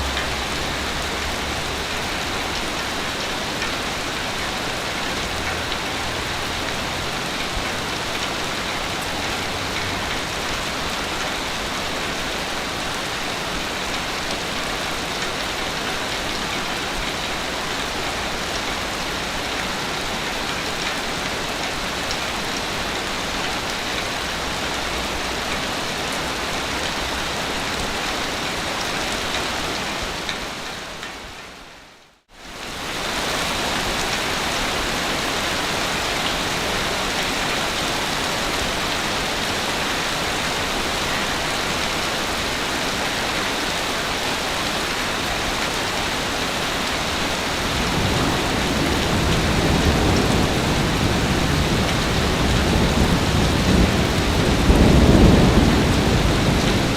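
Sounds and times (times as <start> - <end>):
rushing water: 0.0 - 56.9.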